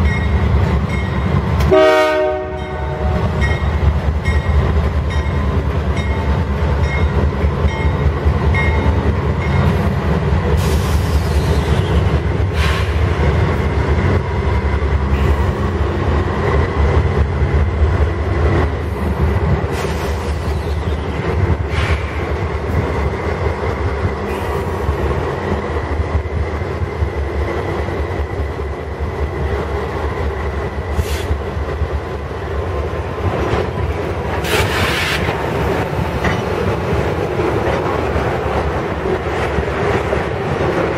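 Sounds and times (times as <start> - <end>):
train rumbling past: 0.0 - 40.9.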